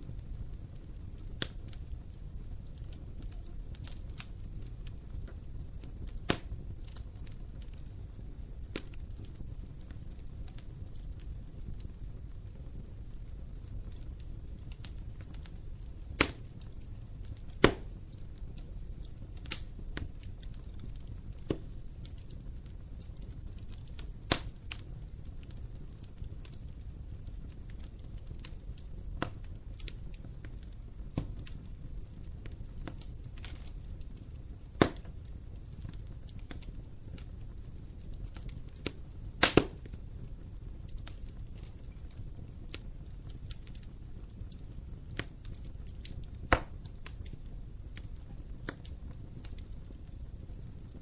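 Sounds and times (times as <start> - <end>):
sharp pops of fire: 0.0 - 51.0
wood fire crackling: 0.0 - 51.0.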